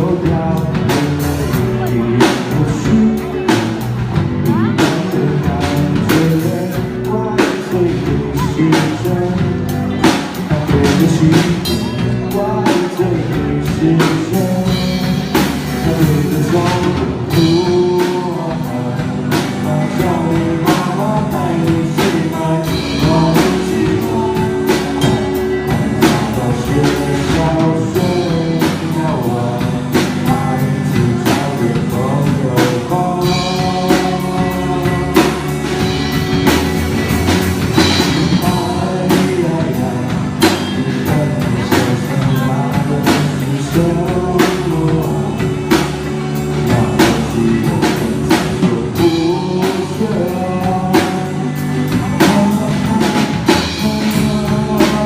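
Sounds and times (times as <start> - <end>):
drum kit beat: 0.0 - 55.0
guitar: 0.0 - 55.0
person singing: 0.0 - 55.0
rock band playing: 0.0 - 55.0.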